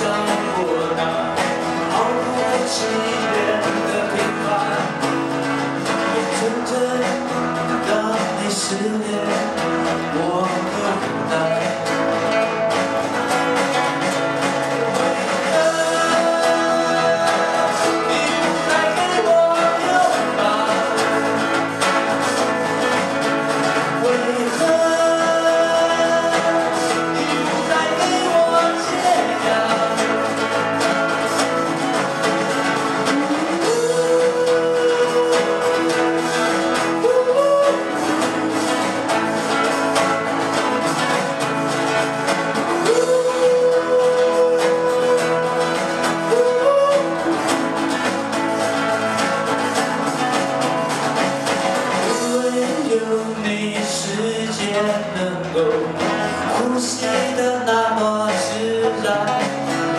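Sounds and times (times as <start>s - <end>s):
band music with guitar: 0.0s - 59.9s.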